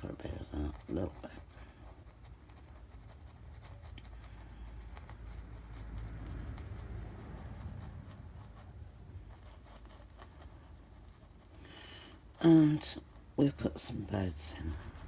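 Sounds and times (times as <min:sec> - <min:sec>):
paintbrush scrubbing on canvas: 0:00.0 - 0:15.0.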